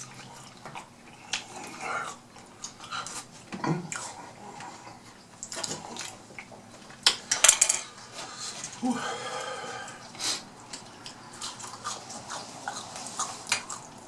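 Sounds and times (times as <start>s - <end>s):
chewing fried fish: 0.0s - 7.4s, 8.0s - 14.0s.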